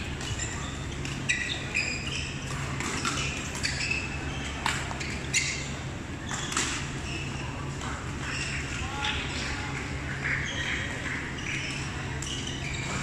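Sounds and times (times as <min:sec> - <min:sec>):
shoe soles squeaking on court: 0:00.0 - 0:13.0.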